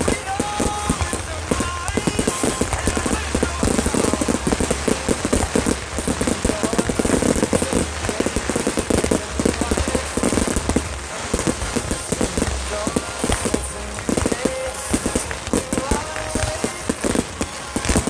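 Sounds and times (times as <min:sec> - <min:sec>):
fireworks popping and crackling: 0:00.0 - 0:18.0.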